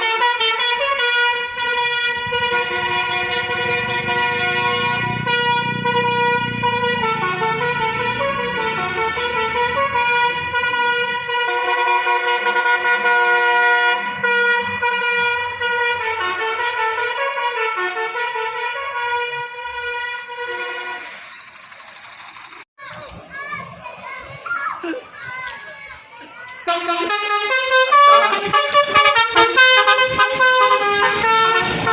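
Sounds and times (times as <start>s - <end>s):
multi-tone bus horn playing a tune: 0.0s - 21.3s, 26.6s - 31.9s.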